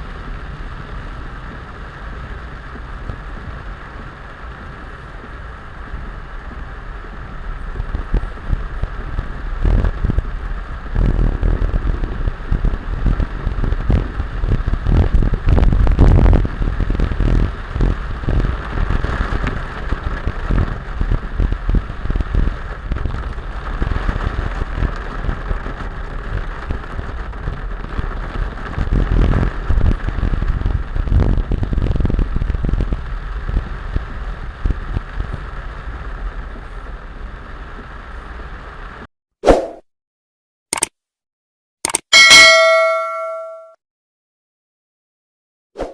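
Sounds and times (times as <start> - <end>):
heavy rain falling: 0.0 - 39.1.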